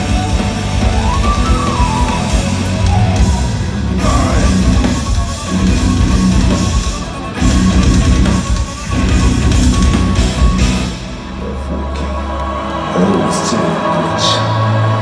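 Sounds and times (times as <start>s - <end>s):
distorted electric guitars: 0.0s - 15.0s
drums: 0.0s - 15.0s.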